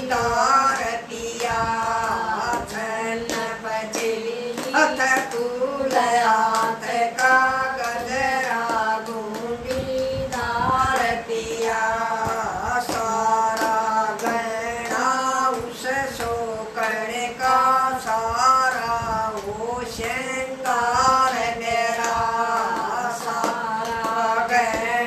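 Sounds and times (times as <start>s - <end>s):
hand claps: 0.0s - 25.0s
women singing folk song: 0.0s - 25.0s.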